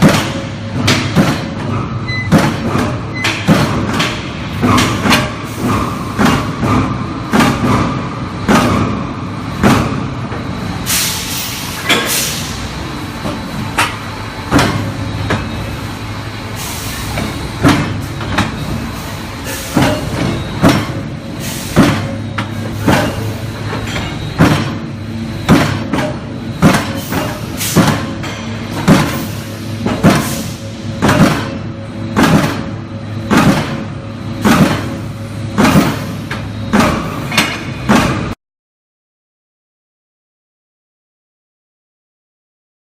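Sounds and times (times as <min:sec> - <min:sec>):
machine knocks and clanks: 0:00.0 - 0:10.8, 0:11.8 - 0:12.2, 0:13.2 - 0:16.3, 0:16.9 - 0:38.4.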